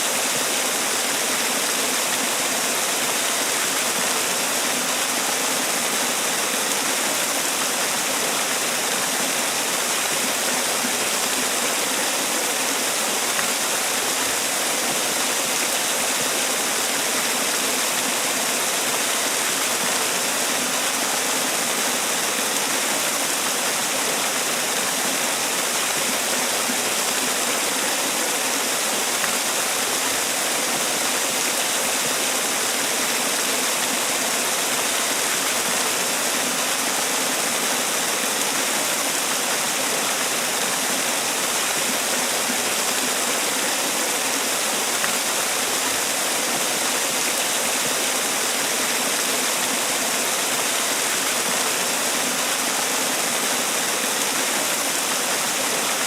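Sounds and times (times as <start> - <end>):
waterfall splashing: 0.0 - 56.0.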